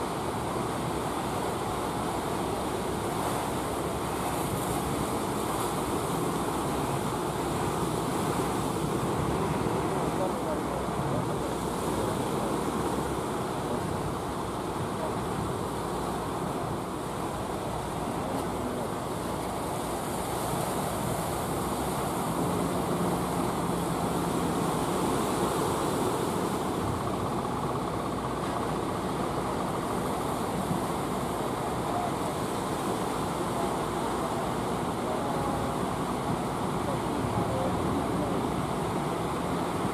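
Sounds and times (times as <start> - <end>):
low boat engines running: 0.0 - 39.9
ocean surf breaking: 0.0 - 39.9.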